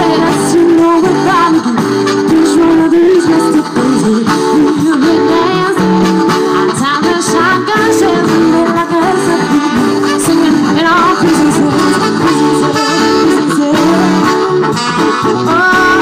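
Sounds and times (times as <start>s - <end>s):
live soul-rock band: 0.0s - 16.0s
person singing: 0.0s - 16.0s
saxophone: 0.0s - 16.0s.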